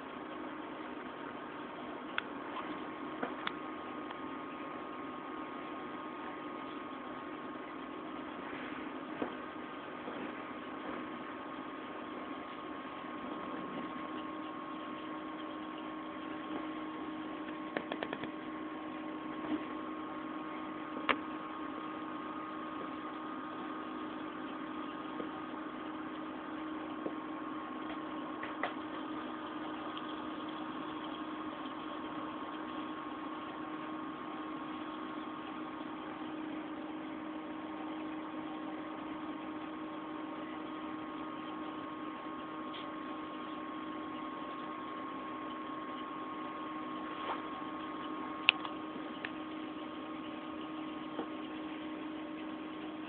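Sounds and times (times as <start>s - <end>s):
aquarium pump humming: 0.0s - 53.0s.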